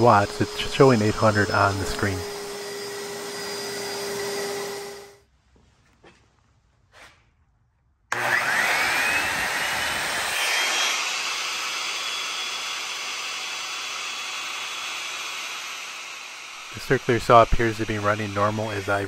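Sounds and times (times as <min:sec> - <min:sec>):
circular saw motor whine: 0:00.0 - 0:05.2, 0:08.1 - 0:19.0.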